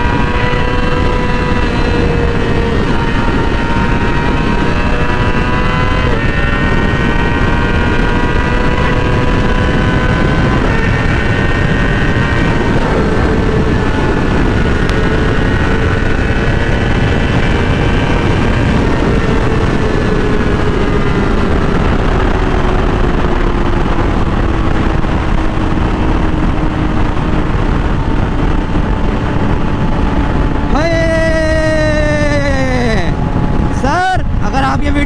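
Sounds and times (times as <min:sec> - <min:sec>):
motorcycle engine running: 0:00.0 - 0:35.0
wind noise: 0:00.0 - 0:35.0.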